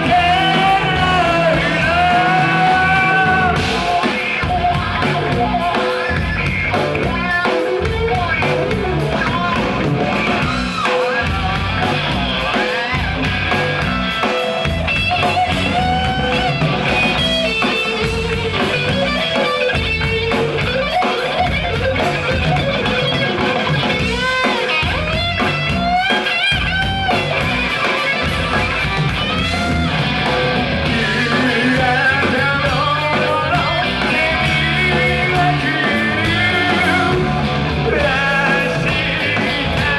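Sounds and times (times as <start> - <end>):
electric guitar lead with bending notes: 0.0 - 39.9
rock band playing live: 0.0 - 39.9.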